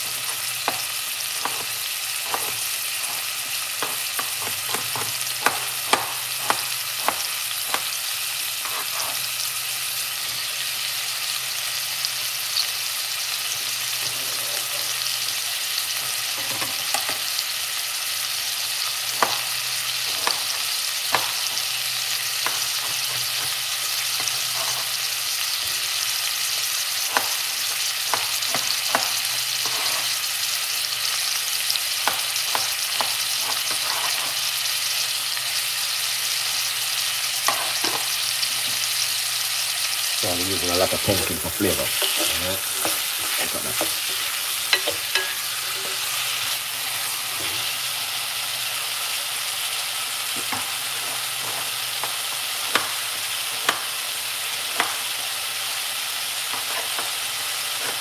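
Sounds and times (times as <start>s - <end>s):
vegetables sizzling in a pot: 0.0s - 58.0s.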